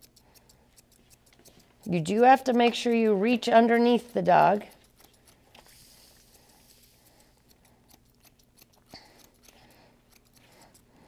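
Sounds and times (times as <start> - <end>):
shears snipping fur: 0.0 - 11.0.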